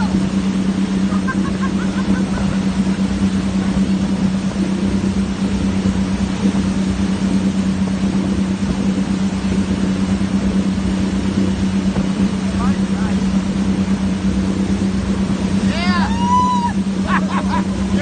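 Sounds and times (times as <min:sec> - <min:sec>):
boat engine droning: 0:00.0 - 0:18.0
water wash: 0:00.0 - 0:18.0
wind: 0:00.0 - 0:18.0.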